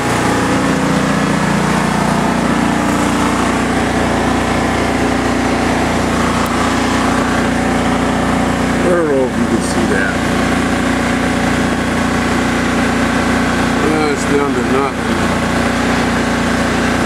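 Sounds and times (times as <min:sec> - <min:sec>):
welding machine engine running: 0:00.0 - 0:17.0.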